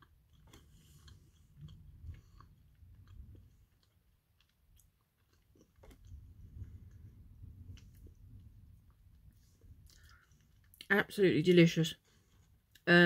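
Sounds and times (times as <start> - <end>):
faint chewing: 0.0 - 10.9, 12.0 - 12.9.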